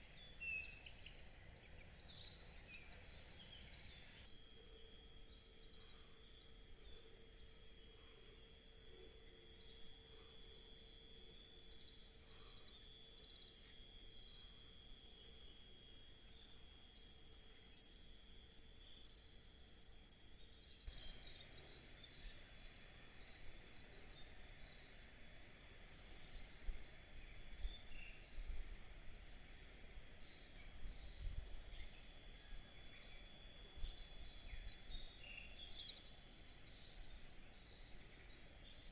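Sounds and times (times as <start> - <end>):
wild birds singing and chirping: 0.0 - 38.9.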